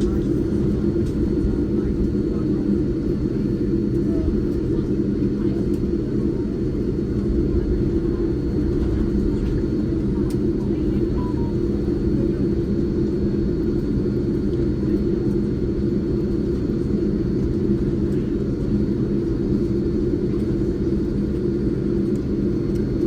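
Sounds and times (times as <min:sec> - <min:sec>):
aircraft cabin engine rumble: 0:00.0 - 0:23.0.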